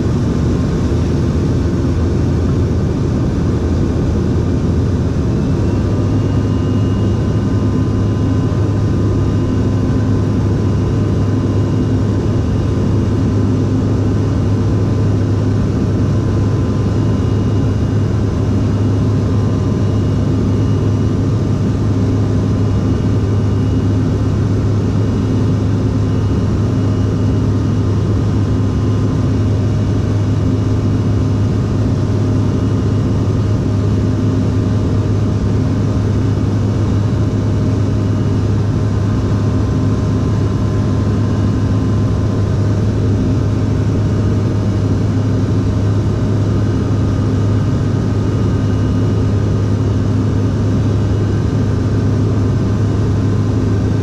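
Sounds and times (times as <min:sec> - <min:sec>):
aircraft cabin drone: 0:00.0 - 0:54.0
faint jet engine whine: 0:00.0 - 0:54.0.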